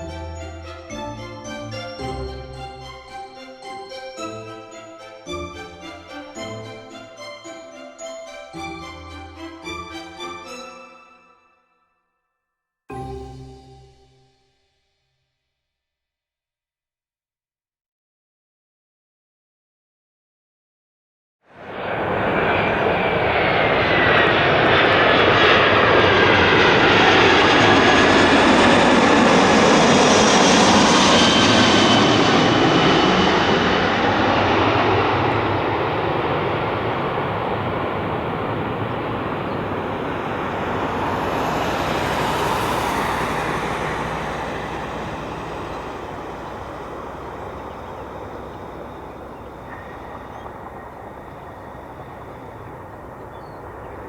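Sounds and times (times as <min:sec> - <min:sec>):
jet airliner passing: 0:00.0 - 0:11.1, 0:21.5 - 0:54.0.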